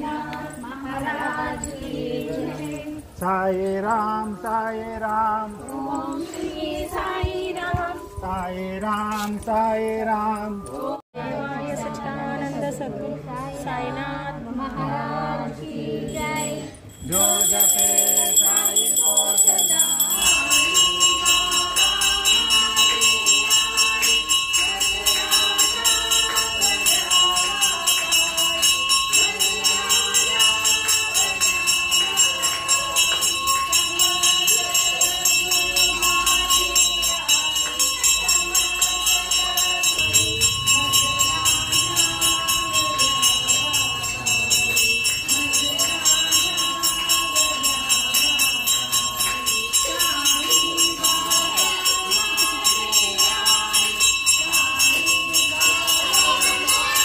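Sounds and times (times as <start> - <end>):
jingling bells: 0.0 - 11.0, 16.0 - 57.0
voices singing devotional music: 0.0 - 57.0.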